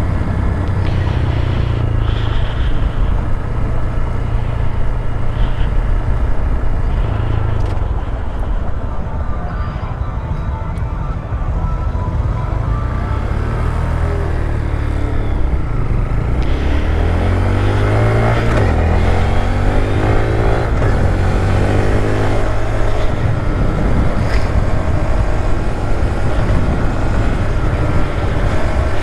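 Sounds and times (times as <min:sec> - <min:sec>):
motorcycle engine running: 0:00.0 - 0:09.6, 0:12.2 - 0:29.0
road noise: 0:00.0 - 0:29.0.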